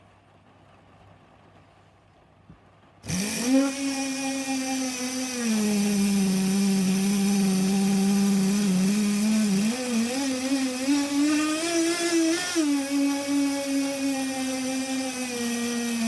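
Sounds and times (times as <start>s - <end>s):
small two-stroke engine running: 3.0s - 16.0s.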